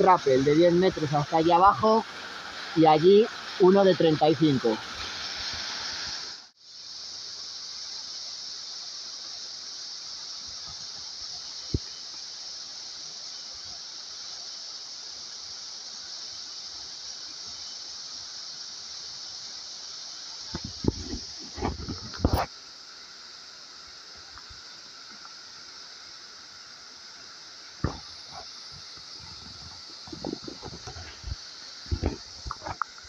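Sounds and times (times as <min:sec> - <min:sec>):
waterfall hissing: 0:00.0 - 0:33.0.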